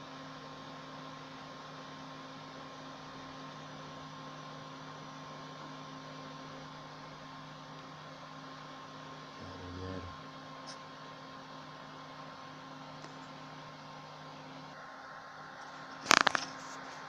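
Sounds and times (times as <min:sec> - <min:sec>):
desktop computer humming: 0:00.0 - 0:17.0.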